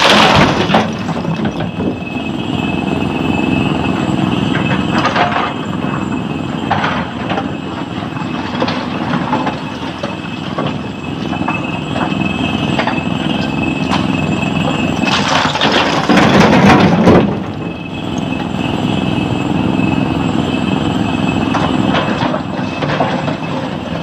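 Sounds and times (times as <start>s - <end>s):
excavator engine and hydraulics: 0.0s - 24.0s.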